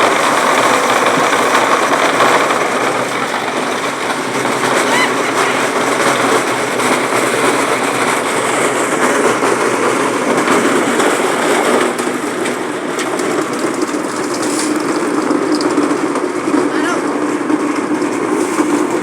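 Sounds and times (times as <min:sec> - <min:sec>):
machinery running: 0:00.0 - 0:19.0.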